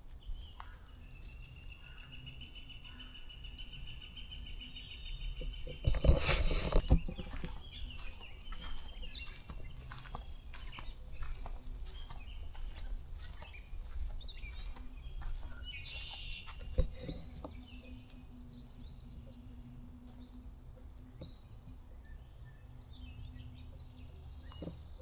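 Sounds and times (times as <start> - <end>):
low outdoor rumble: 0.0 - 25.0
birds chirping and calling: 0.2 - 25.0.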